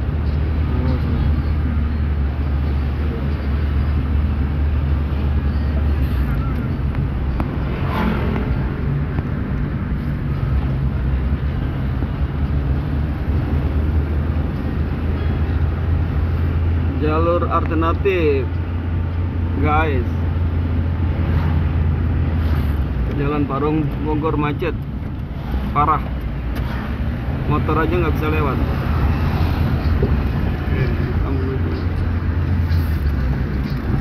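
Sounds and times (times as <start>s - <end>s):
car engine and tyre rumble: 0.0s - 34.0s
passing vehicle: 0.0s - 34.0s.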